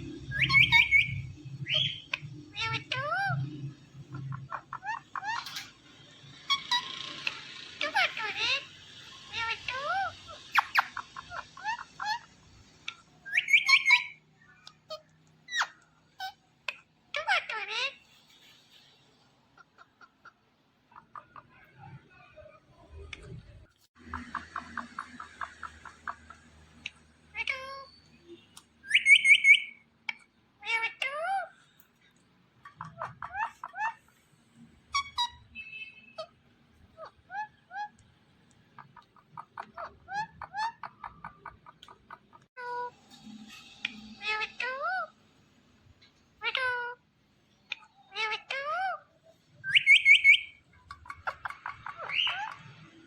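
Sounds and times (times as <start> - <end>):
parrot chattering and squawking: 0.0 - 53.0.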